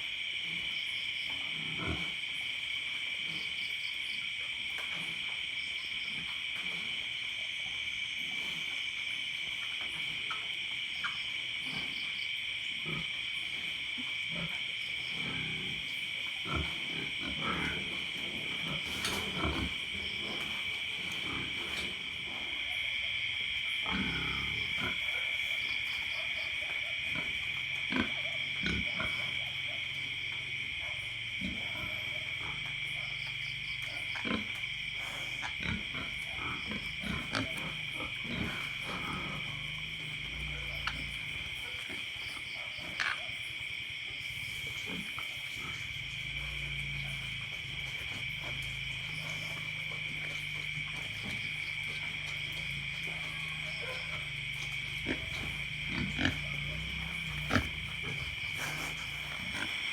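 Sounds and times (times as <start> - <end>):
pigs snoring: 0.0 - 4.1, 4.8 - 43.3, 44.2 - 59.9
insect chorus: 0.0 - 59.9.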